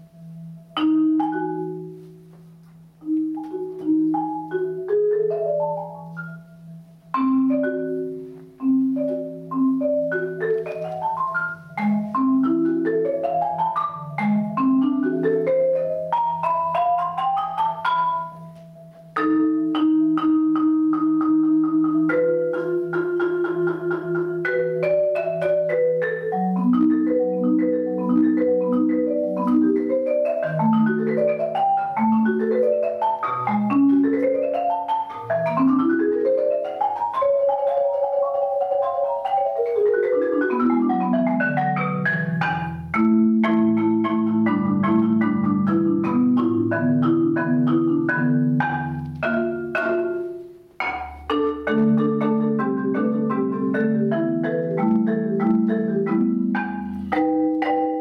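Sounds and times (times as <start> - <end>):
marimba playing: 0.0 - 58.0.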